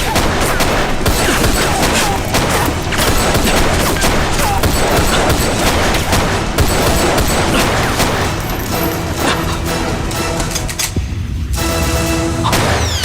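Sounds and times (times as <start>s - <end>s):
rifle and machine-gun shots: 0.0s - 11.0s, 12.5s - 13.0s.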